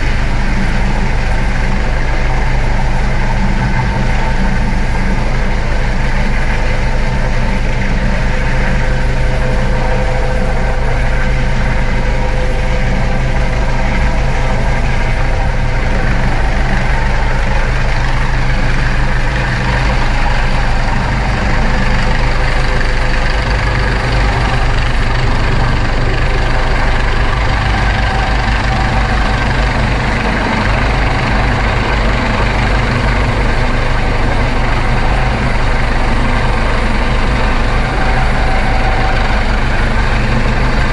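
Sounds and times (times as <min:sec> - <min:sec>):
helicopter hovering: 0:00.0 - 0:40.9.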